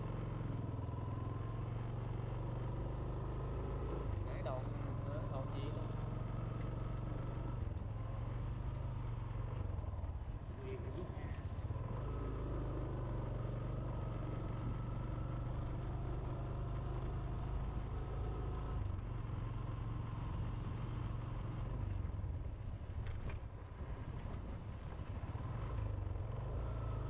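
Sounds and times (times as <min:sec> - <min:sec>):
road and wind noise: 0:00.0 - 0:27.0
small motorbike engine cruising: 0:00.0 - 0:27.0.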